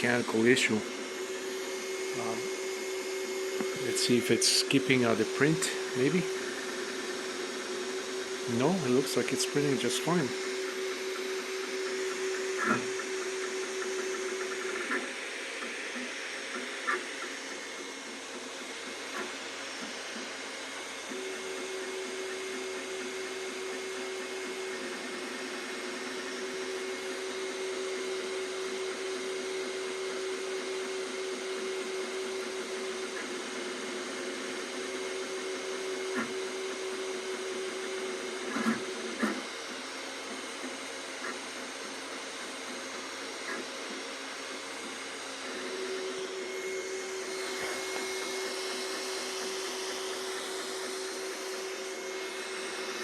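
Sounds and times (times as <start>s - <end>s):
printer motors and fans whining: 0.0s - 53.0s.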